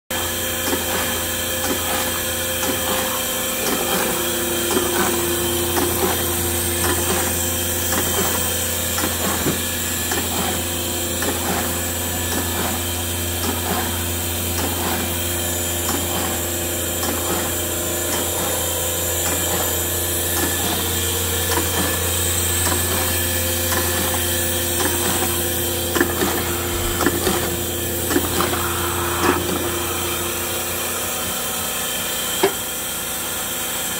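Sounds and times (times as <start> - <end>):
paper feeder motor hum: 0.1 - 33.9.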